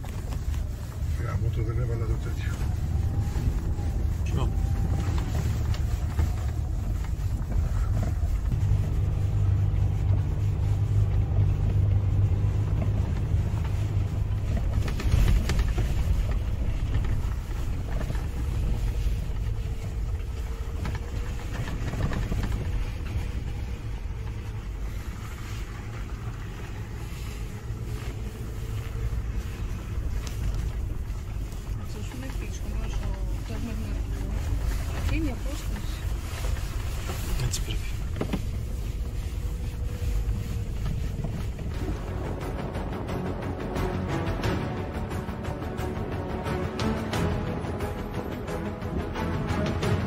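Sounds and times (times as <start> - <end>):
off-road engine running under load: 0.0 - 50.0.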